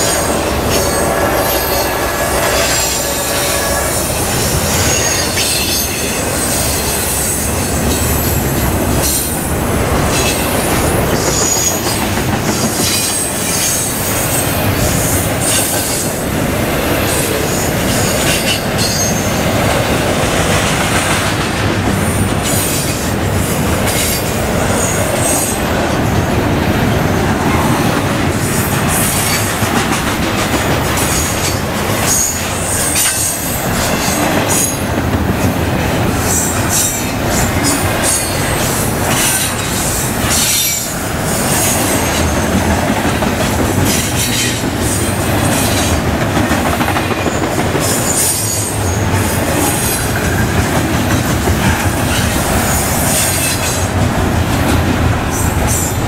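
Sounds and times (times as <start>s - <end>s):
freight train wheels rumbling: 0.0s - 56.0s
wheels clacking over rail joints: 0.0s - 56.0s.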